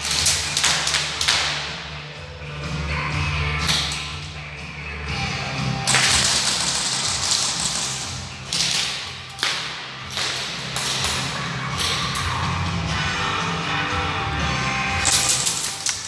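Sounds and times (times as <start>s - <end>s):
rock music with bass line: 0.0s - 16.0s.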